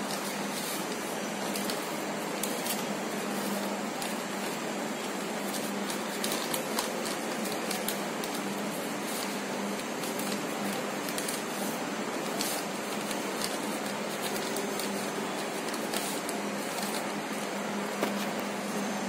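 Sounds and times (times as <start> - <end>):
newspaper crinkling: 0.0 - 19.0.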